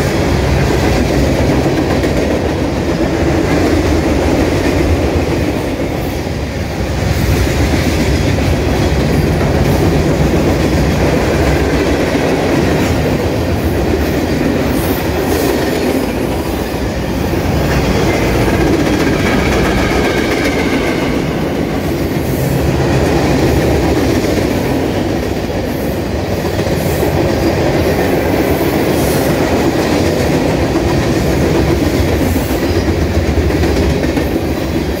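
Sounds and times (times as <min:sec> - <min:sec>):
freight train cars rumbling: 0:00.0 - 0:35.0.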